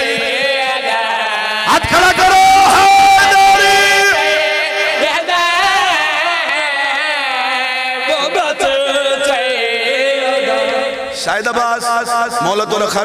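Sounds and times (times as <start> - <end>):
men singing chant over loudspeakers: 0.0 - 13.0.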